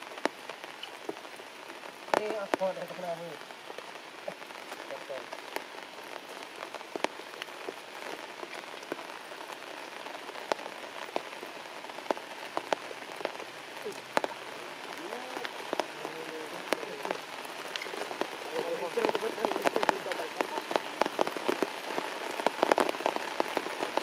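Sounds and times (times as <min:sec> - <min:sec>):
close raindrop strikes: 0:00.0 - 0:24.0
heavy rain on leaves and grass: 0:00.0 - 0:24.0.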